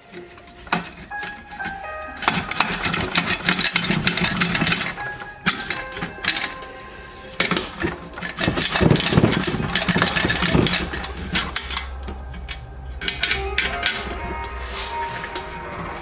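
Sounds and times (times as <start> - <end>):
steady low hum: 0.0 - 16.0
tools clattering on metal: 0.0 - 16.0.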